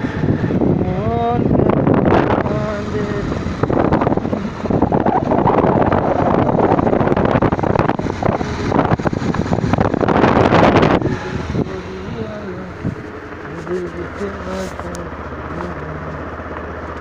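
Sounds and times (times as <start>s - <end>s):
motorcycle running: 0.0s - 17.0s
wind blasting across microphone: 0.0s - 17.0s.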